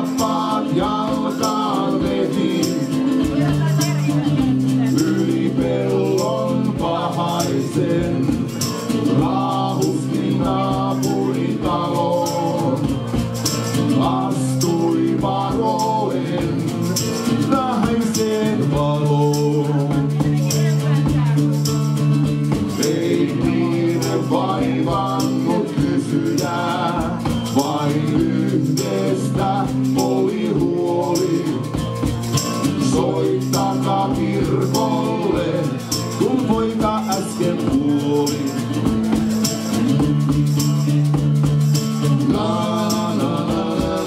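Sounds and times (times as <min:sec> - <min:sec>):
acoustic guitar: 0:00.0 - 0:44.0
bending melody line: 0:00.0 - 0:44.0
shaker: 0:00.0 - 0:44.0
tambourine jingling: 0:00.0 - 0:44.0.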